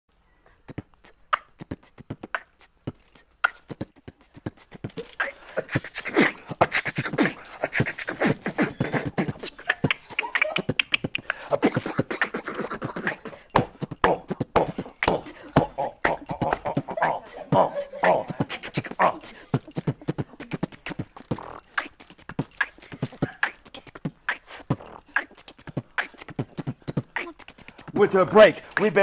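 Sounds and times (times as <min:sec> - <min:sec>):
man beatboxing: 0:00.7 - 0:29.0.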